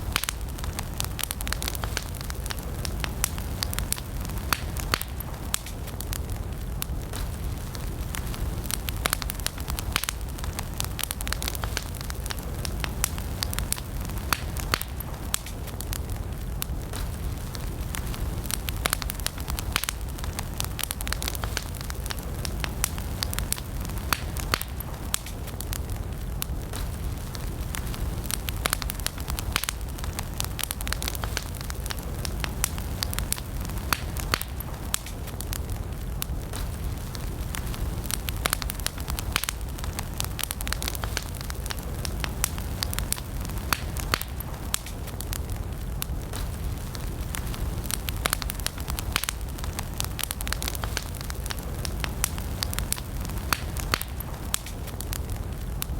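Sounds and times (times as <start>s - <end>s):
campfire crackling: 0.0s - 55.9s
low rumble of flames: 0.0s - 55.9s.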